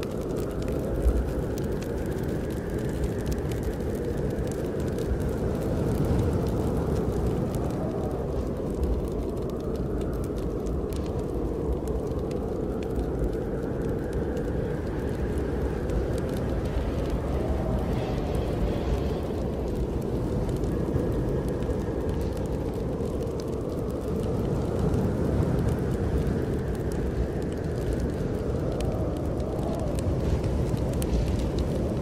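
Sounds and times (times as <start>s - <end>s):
wind blowing: 0.0s - 32.0s
wood fire crackling: 0.0s - 32.0s.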